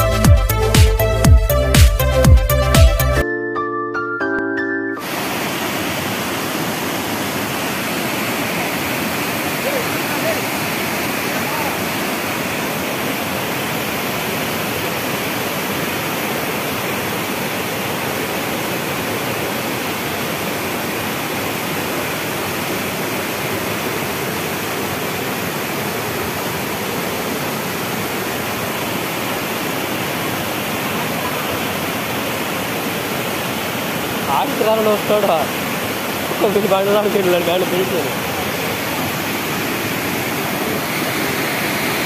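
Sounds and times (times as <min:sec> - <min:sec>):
water cascading over rocks: 0:05.0 - 0:42.0.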